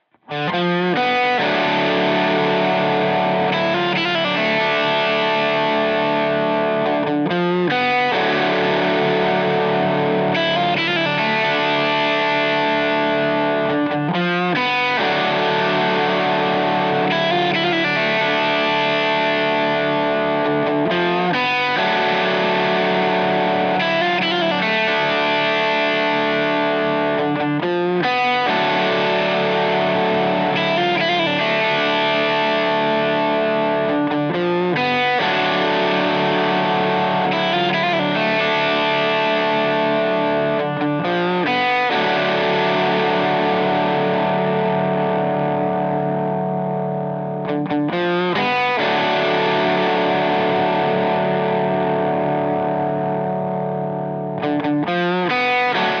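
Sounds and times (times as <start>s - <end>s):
distorted electric guitar chords: 0.0s - 56.0s.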